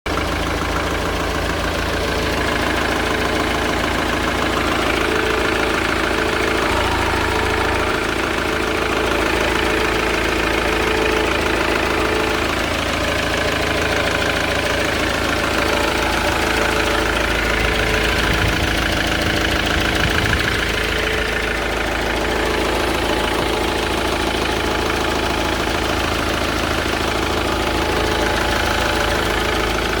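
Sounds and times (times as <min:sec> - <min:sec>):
diesel engine idling: 0:00.1 - 0:30.0.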